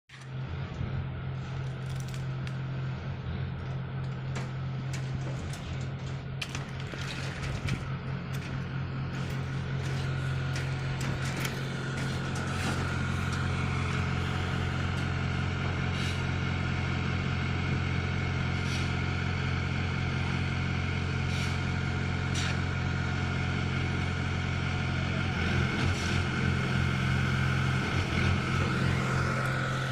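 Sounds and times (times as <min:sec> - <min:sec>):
pump engine running: 0:00.1 - 0:29.9.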